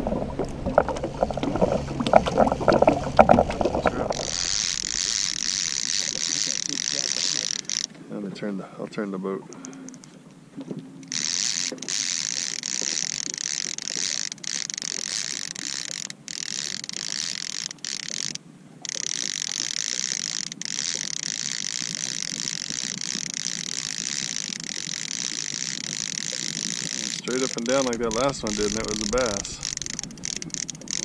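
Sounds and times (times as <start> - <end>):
fishing reel ratcheting whir: 1.0 - 8.0, 9.6 - 10.2, 11.0 - 31.0.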